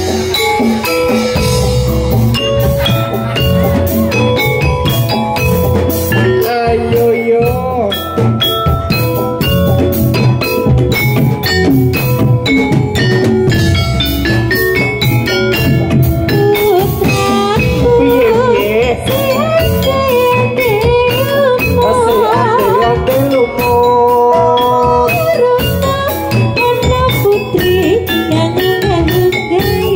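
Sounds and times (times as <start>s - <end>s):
hand drums: 0.0s - 29.9s
struck metal keyed instruments: 0.0s - 29.9s
wavering melody line: 0.0s - 29.9s.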